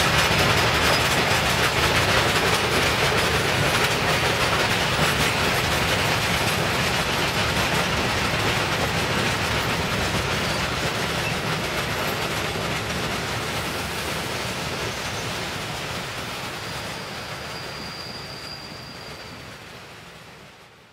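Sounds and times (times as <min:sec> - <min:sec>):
train wheels clattering over rails: 0:00.0 - 0:19.6.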